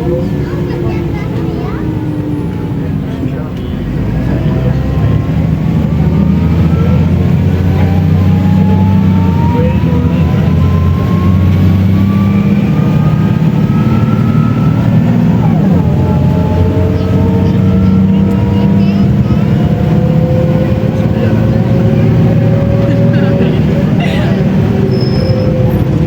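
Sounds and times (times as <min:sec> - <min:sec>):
bus engine accelerating: 0:00.0 - 0:26.0
rising gearbox whine: 0:04.3 - 0:26.0.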